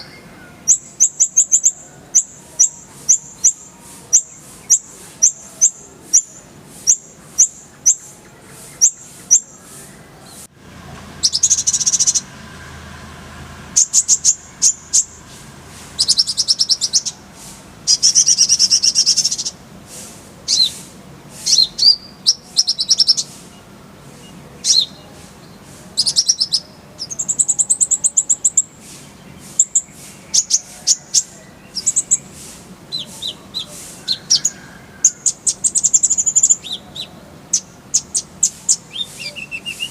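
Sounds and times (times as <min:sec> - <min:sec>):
sunbird singing: 0:00.0 - 0:10.5, 0:11.2 - 0:12.4, 0:13.6 - 0:39.9.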